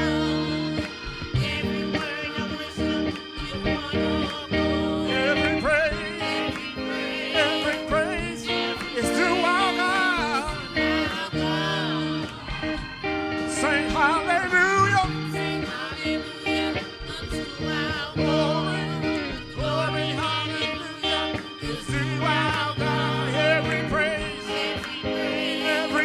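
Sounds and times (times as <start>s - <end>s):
instrumental backing with guitar: 0.0s - 26.0s
person singing gospel: 0.0s - 26.0s.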